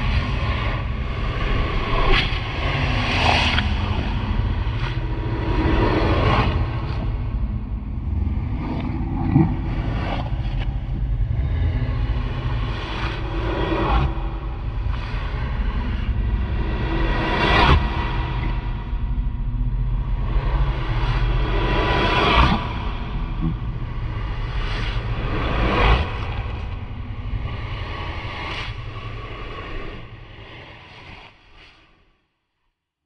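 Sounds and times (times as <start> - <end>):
deep rumbling drone: 0.0 - 31.4.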